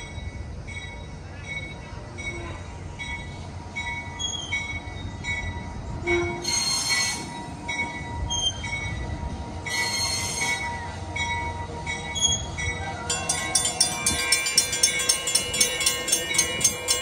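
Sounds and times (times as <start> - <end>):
railroad crossing bell dinging: 0.0 - 17.0
train rumble: 0.0 - 17.0
train wheels squealing: 0.0 - 17.0.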